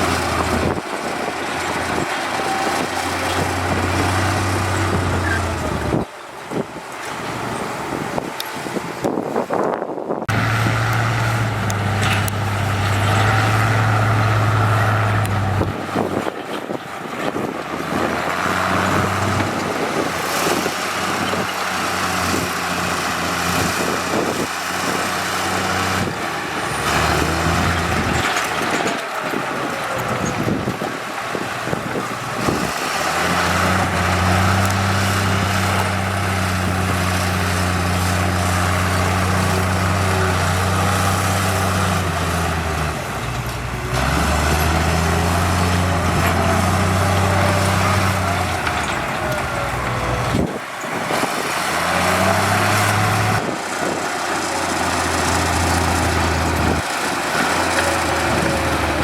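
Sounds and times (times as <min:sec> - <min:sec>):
rattling and grinding: 0:00.0 - 0:09.4, 0:10.2 - 0:59.0
diesel machinery engine drone: 0:00.0 - 0:59.0.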